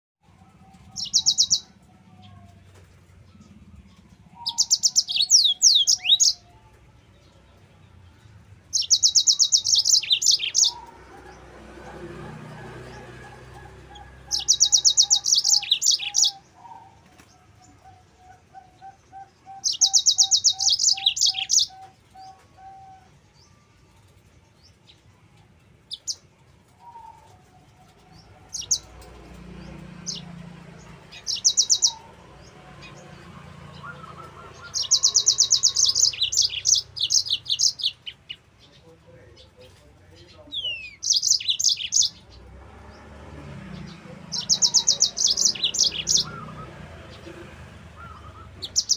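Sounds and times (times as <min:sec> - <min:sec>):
canary trilling song: 0:00.2 - 0:48.9.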